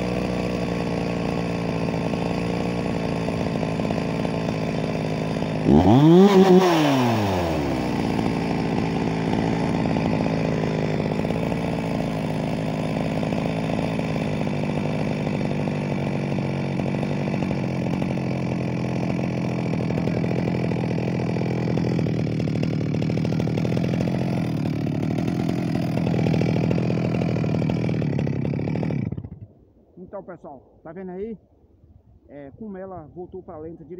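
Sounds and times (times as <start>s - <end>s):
chainsaw engine idling: 0.0s - 30.3s.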